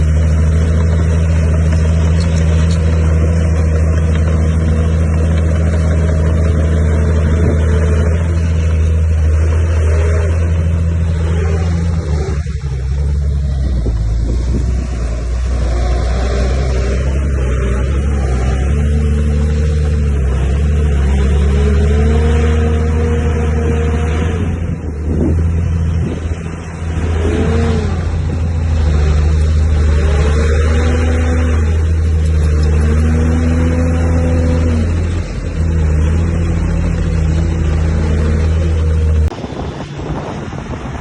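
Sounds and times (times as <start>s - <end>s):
diesel engine working under load: 0.0s - 41.0s.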